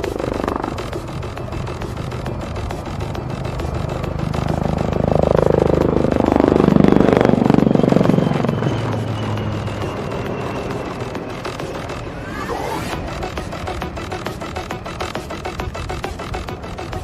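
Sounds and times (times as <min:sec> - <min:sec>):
helicopter flying past: 0:00.0 - 0:17.0.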